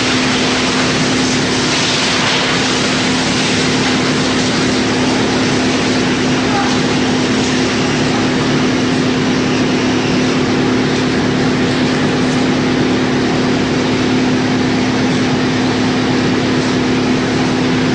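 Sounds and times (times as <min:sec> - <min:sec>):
wood chipper running: 0:00.0 - 0:17.9.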